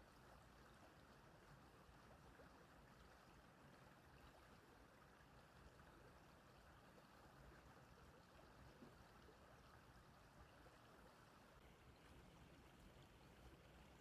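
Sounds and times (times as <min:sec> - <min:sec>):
small stream trickling: 0:00.0 - 0:14.0.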